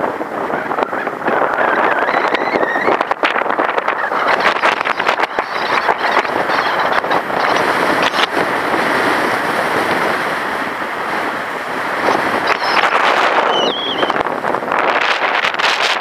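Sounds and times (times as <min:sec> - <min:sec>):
strong wind rushing: 0:00.0 - 0:16.0
wind buffeting microphone: 0:00.0 - 0:16.0.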